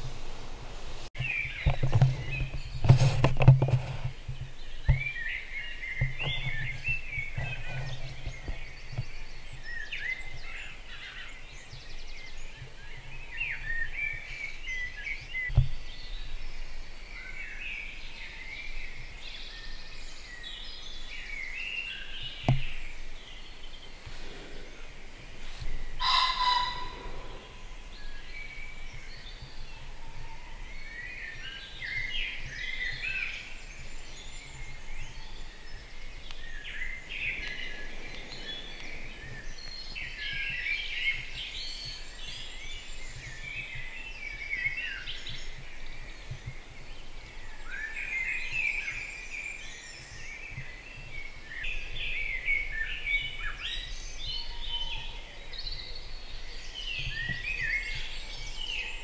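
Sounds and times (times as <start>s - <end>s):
songbirds singing: 1.0s - 59.0s.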